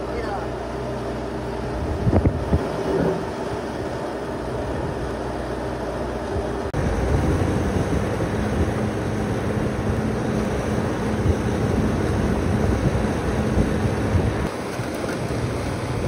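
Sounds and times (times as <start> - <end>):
machinery rumbling: 0.0 - 16.0.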